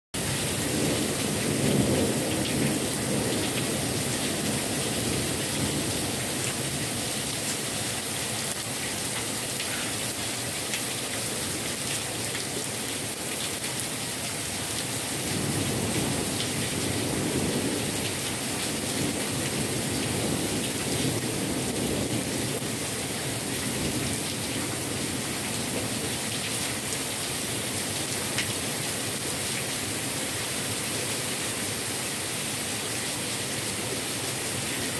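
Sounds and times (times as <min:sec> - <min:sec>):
heavy rain on leaves and pavement: 0:00.2 - 0:34.9.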